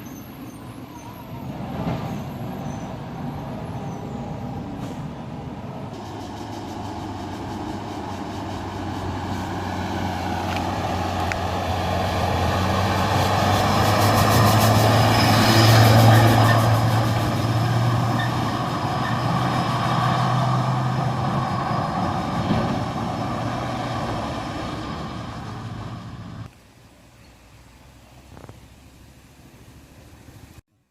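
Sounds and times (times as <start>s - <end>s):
dump truck diesel engine passing: 0.0s - 26.5s.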